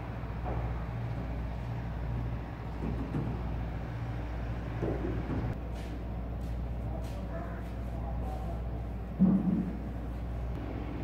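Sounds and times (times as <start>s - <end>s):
machine engine droning: 0.0s - 5.6s, 6.9s - 11.0s.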